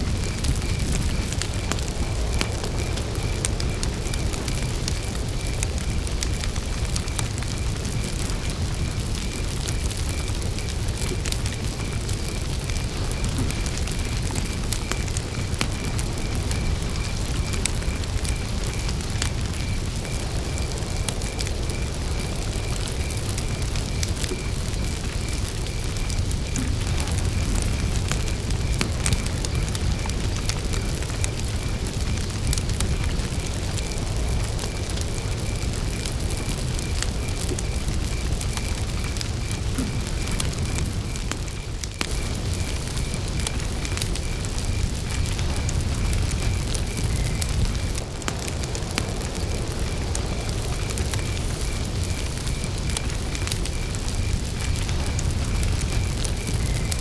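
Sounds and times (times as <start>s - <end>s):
campfire crackling: 0.0s - 57.0s
cricket chirping: 0.0s - 57.0s.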